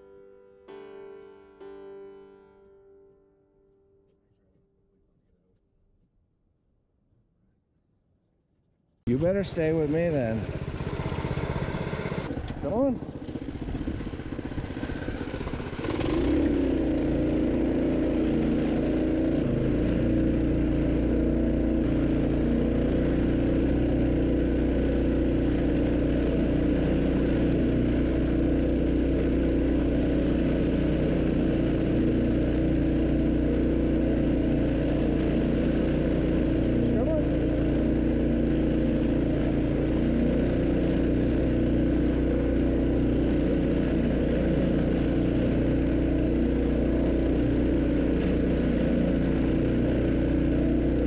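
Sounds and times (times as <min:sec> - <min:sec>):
small engine revving: 0:09.2 - 0:51.0.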